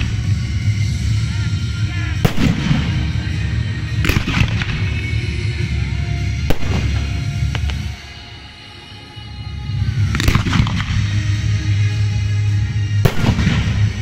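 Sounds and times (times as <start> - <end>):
music: 0.0 - 14.0.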